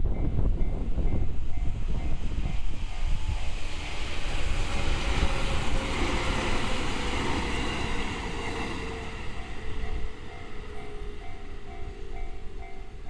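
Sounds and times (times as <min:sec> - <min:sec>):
crossing warning bell ringing: 0:00.0 - 0:05.0, 0:06.3 - 0:13.0
train wheels rumbling on rails: 0:00.0 - 0:13.0.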